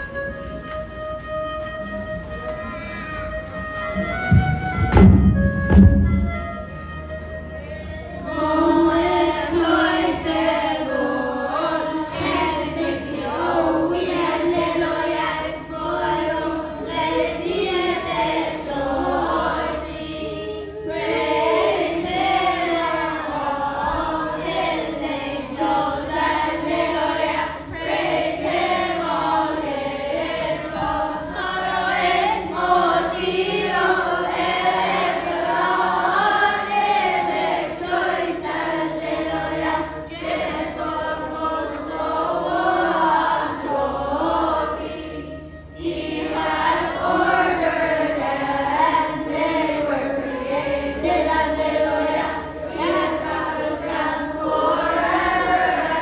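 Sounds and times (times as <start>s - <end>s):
children's choir singing a hymn: 0.0s - 56.0s.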